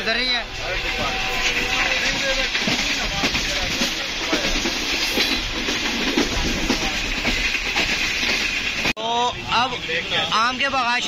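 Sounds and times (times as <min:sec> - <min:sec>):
train wheels clickety-clack: 0:00.0 - 0:09.0
train wheels rumbling on track: 0:00.0 - 0:11.0.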